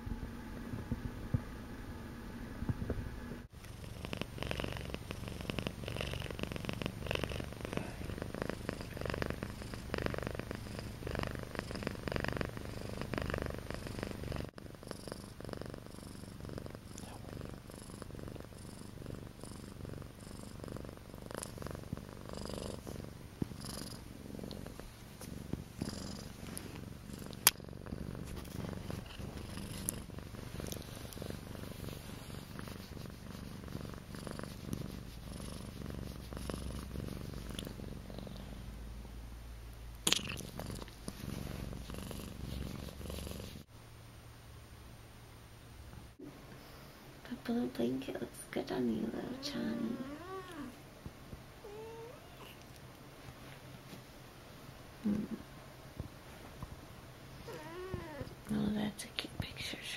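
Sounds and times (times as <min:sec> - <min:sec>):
cat purring: 0:02.6 - 0:39.1, 0:40.0 - 0:43.7, 0:46.7 - 0:53.0, 0:55.0 - 0:59.9.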